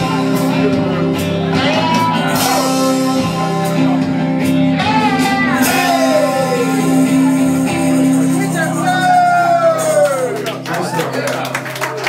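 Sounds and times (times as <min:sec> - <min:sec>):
person singing: 0:00.0 - 0:10.0
amplified guitar: 0:00.0 - 0:12.0.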